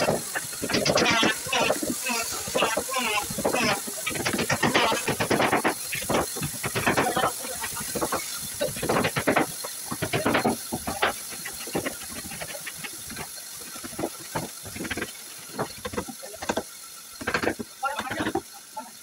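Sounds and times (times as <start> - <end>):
hammer tapping wood: 0.0 - 18.4
hand saw rasping through wood: 0.0 - 18.4.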